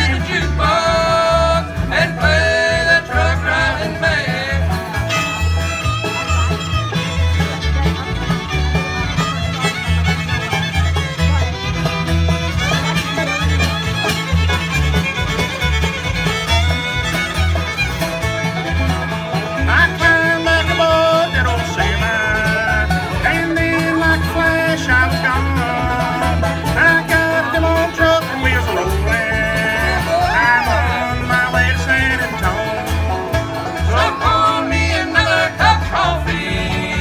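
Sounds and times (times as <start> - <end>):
acoustic guitar: 0.0 - 37.0
banjo: 0.0 - 37.0
fiddle: 0.0 - 37.0
upright bass: 0.0 - 37.0.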